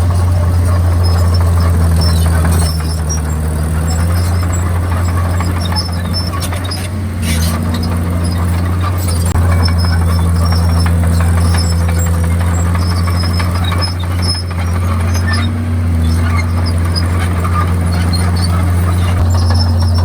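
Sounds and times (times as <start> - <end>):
bulldozer diesel engine droning: 0.0 - 20.0
short high squeaks: 0.0 - 20.0.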